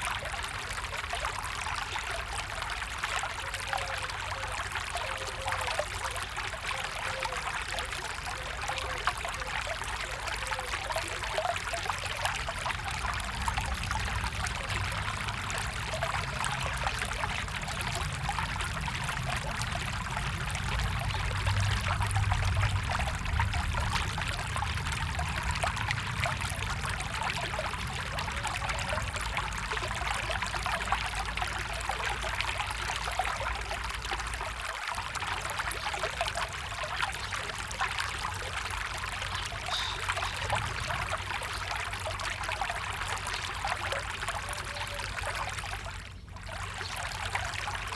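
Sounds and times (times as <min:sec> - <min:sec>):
low water rumble: 0:00.0 - 0:47.9
stream water trickling: 0:00.0 - 0:47.9.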